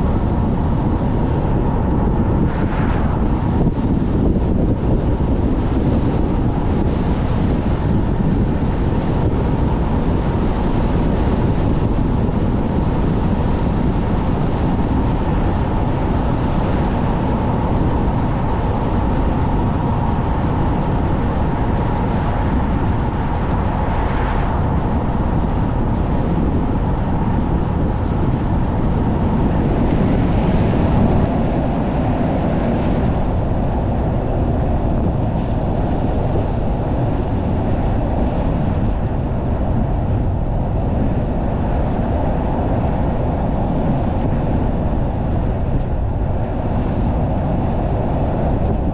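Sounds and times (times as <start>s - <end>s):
car road noise: 0.0s - 48.9s
strong wind noise: 0.0s - 48.9s.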